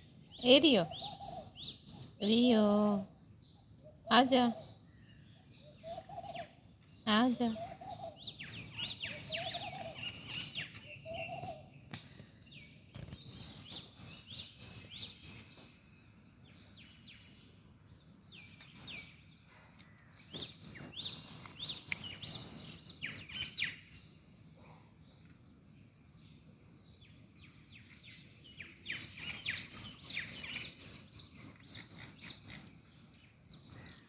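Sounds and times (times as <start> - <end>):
bird chirping: 0.0 - 34.0.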